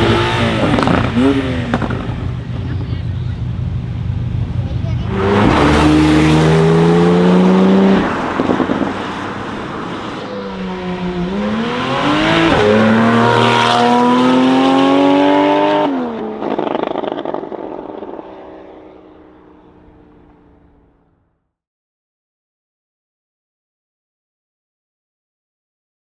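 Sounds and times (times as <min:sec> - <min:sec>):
exhaust crackles: 0:00.0 - 0:21.0
sports car accelerating hard: 0:00.0 - 0:21.0.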